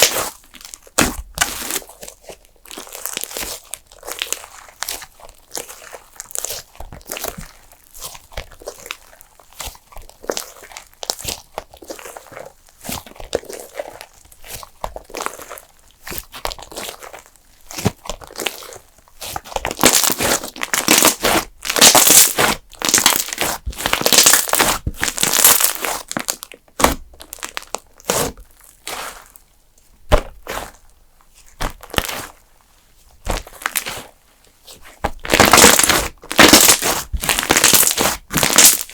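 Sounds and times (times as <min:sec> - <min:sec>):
slime crackling and popping: 0:00.0 - 0:29.4, 0:30.0 - 0:32.4, 0:33.2 - 0:38.9.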